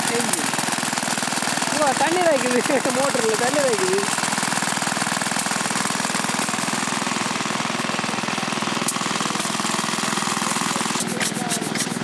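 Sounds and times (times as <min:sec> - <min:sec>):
small stationary engine running: 0:00.0 - 0:12.0.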